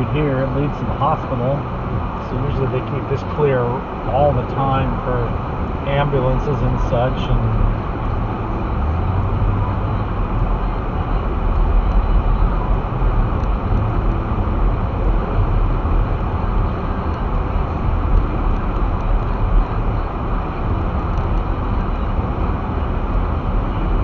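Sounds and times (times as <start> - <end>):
car engine: 0.0 - 24.0
road and tyre noise: 0.0 - 24.0.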